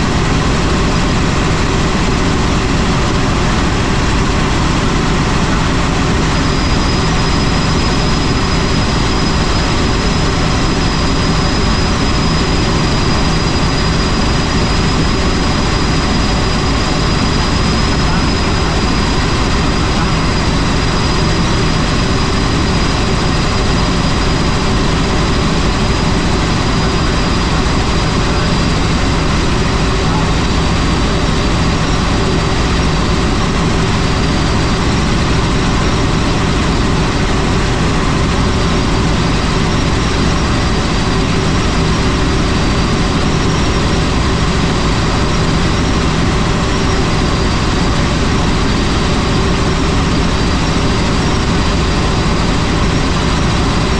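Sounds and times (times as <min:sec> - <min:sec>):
helicopter engine and rotor: 0:00.0 - 0:53.9.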